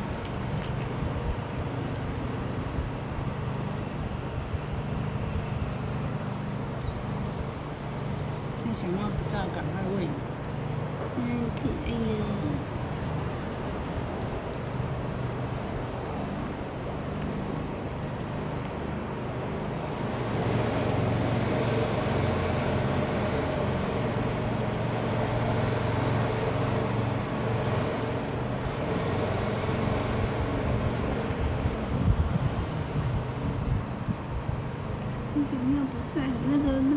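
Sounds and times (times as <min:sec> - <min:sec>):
city traffic rumble: 0:00.0 - 0:36.9.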